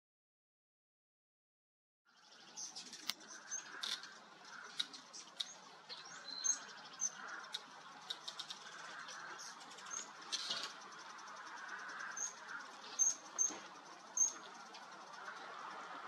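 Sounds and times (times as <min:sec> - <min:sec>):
birds chipping: 0:02.1 - 0:16.0.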